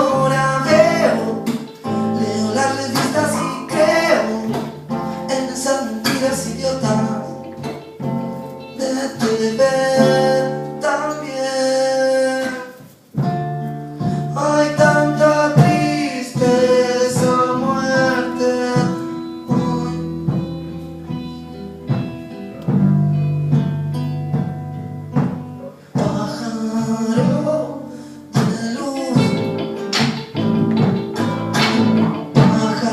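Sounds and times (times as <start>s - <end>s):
person singing: 0.0s - 12.9s, 14.0s - 21.9s, 25.6s - 32.9s
plucked acoustic guitar: 0.0s - 32.9s.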